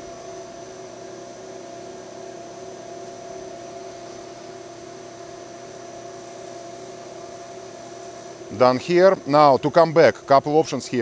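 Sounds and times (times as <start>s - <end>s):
lathe mechanical hum: 0.0s - 11.0s.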